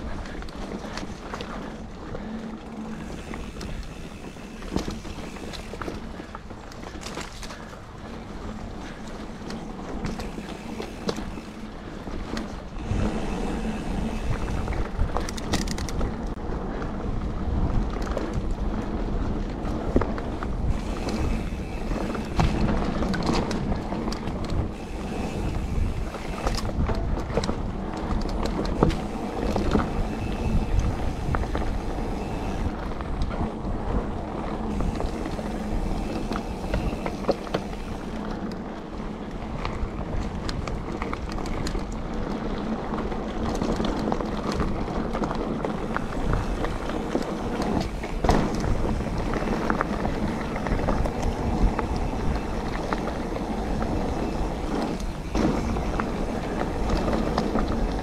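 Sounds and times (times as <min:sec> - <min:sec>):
bike tyres rumbling over dirt: 0:00.0 - 0:58.0
wind buffeting microphone: 0:00.0 - 0:58.0
bike knocks and rattles: 0:02.2 - 0:16.5, 0:17.6 - 0:38.7, 0:39.4 - 0:58.0.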